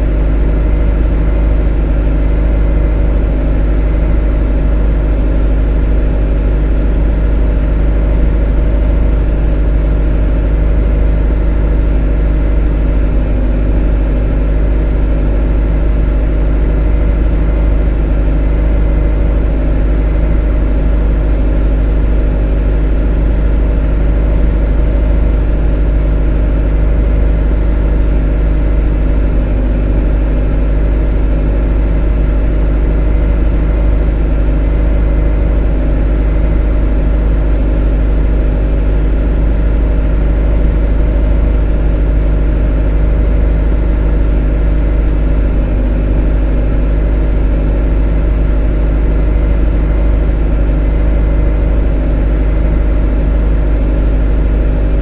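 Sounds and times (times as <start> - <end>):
motor humming: 0.0 - 55.0.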